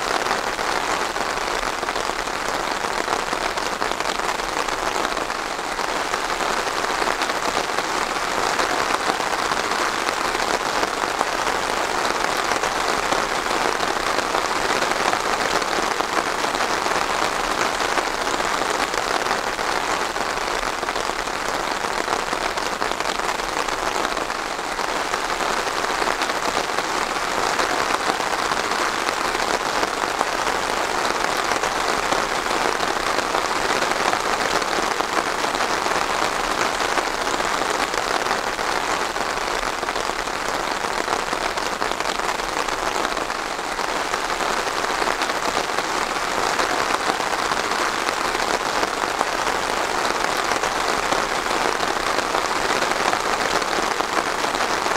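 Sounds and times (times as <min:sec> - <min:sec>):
rain pattering on a surface: 0:00.0 - 0:54.9.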